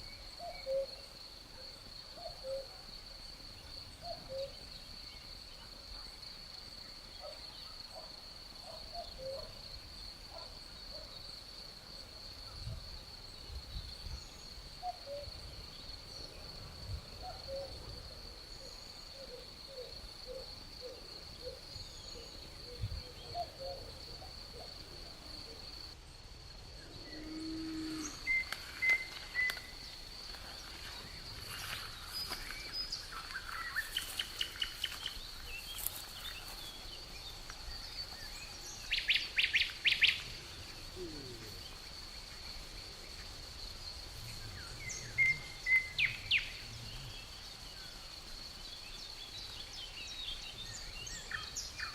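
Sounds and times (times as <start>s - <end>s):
high insect trill: 0.0s - 51.9s.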